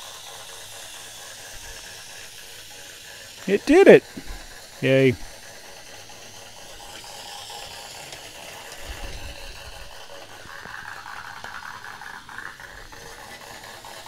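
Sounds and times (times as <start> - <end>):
toy train motor whirring: 0.0 - 14.0.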